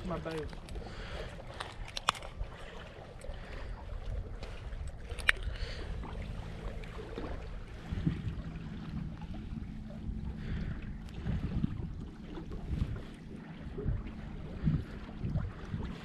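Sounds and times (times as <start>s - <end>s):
small waves against boat: 0.0s - 16.0s
wind rumble: 0.0s - 16.0s.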